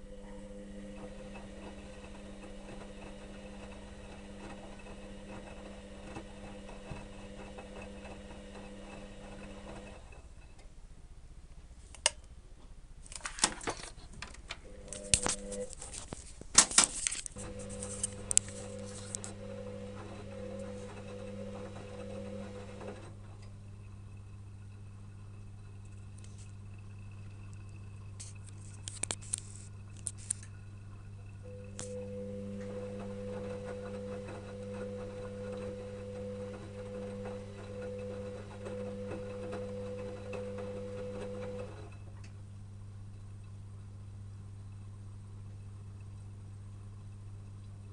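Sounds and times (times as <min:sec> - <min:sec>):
washing machine motor humming: 0:00.0 - 0:10.6, 0:14.5 - 0:16.0, 0:17.3 - 0:47.9.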